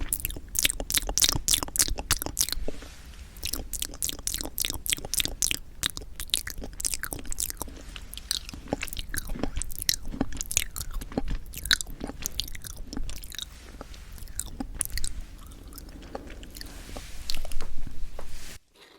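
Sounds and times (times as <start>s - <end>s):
chewing with sticky mouth clicks: 0.0s - 2.8s, 3.4s - 18.0s.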